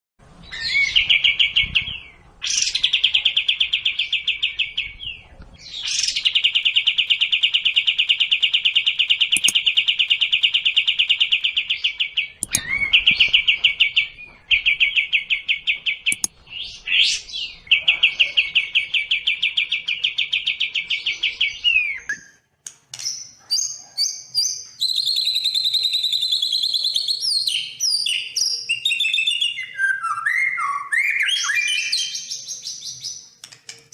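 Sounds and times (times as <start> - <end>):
high bird chirps and whistles: 0.4 - 22.4, 23.0 - 33.3.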